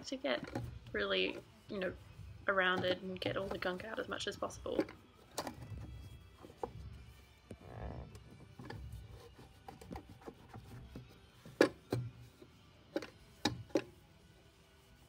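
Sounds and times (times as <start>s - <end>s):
sponge scrubbing metal bowl: 0.0s - 12.4s.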